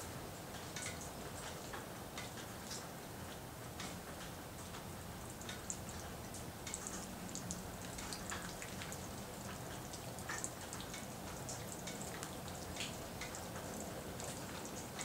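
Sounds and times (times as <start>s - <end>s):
raindrops ticking and dripping: 0.0s - 15.0s
steady hiss of rain: 0.0s - 15.0s.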